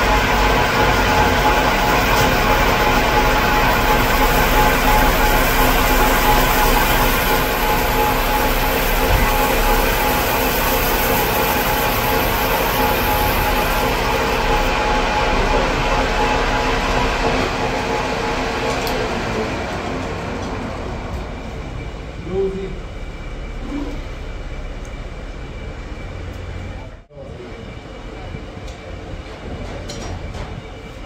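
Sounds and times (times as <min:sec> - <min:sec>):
metal lathe running: 0:00.0 - 0:26.8.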